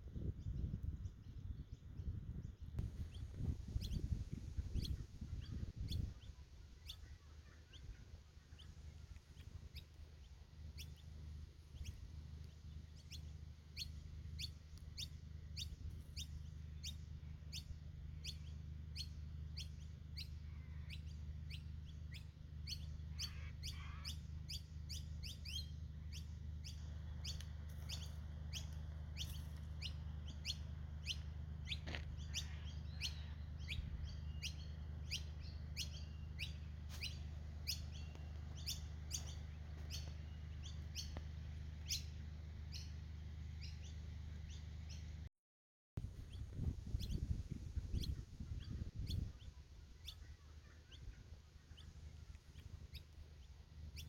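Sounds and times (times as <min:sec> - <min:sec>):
steady low hum: 0:00.0 - 0:45.3, 0:46.0 - 0:54.0
bird chirping: 0:00.2 - 0:43.0, 0:43.6 - 0:45.2, 0:46.2 - 0:54.0.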